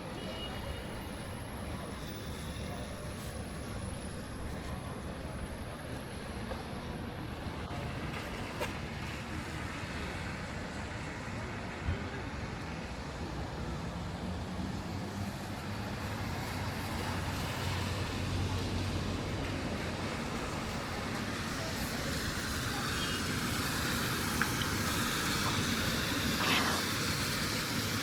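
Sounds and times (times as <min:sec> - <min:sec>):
passing road traffic: 0:00.0 - 0:28.0.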